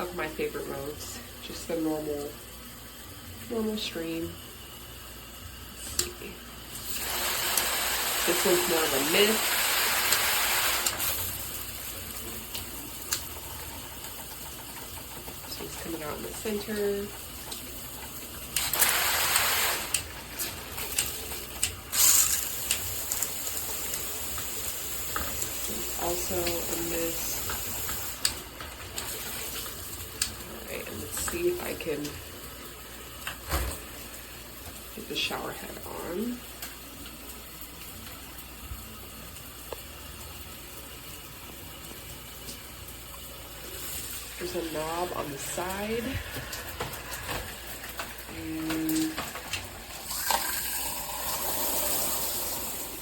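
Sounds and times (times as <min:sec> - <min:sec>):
shower spraying water: 0:00.0 - 0:53.0.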